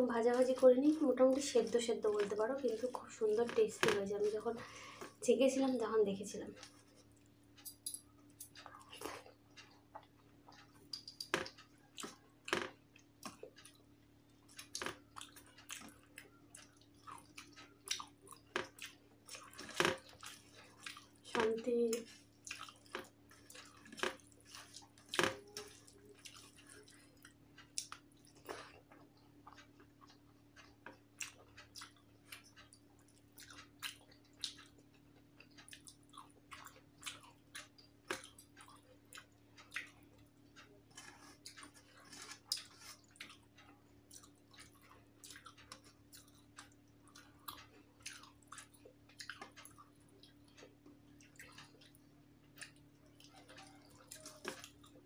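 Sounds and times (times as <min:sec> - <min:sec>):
faint low hum: 0:00.0 - 0:55.0
wet chewing: 0:06.4 - 0:55.0.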